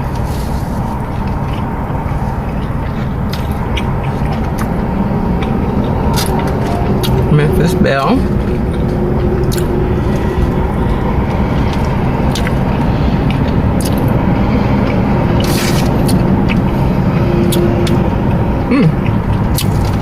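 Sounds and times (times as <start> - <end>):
person chewing and eating: 0.0 - 20.0
steady low rumble: 0.0 - 20.0.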